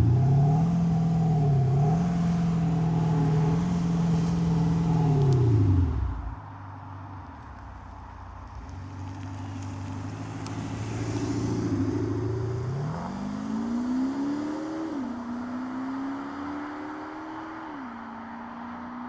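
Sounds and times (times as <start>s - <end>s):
diesel car engine accelerating: 0.0s - 6.5s, 8.3s - 19.0s.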